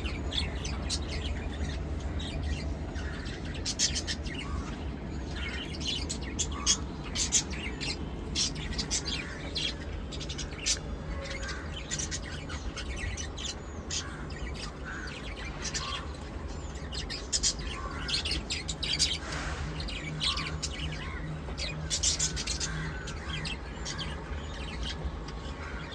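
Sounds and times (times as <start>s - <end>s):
parrots chirping and chattering: 0.0s - 25.9s
steady low hum: 0.0s - 25.9s.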